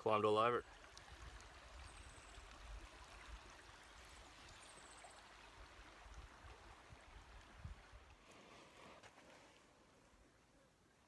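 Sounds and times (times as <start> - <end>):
faint flowing creek water: 0.0 - 11.0.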